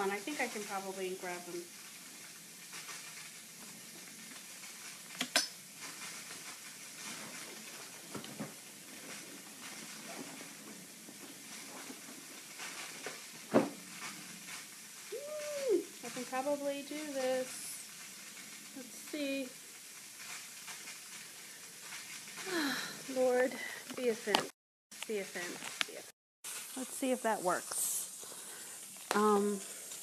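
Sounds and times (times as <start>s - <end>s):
radiator hissing: 0.0s - 30.0s.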